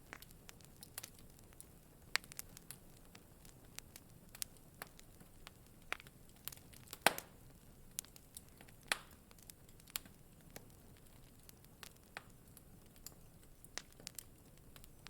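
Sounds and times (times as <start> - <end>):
faint steady hiss: 0.0 - 15.0
wood fire crackling and popping: 0.0 - 15.0.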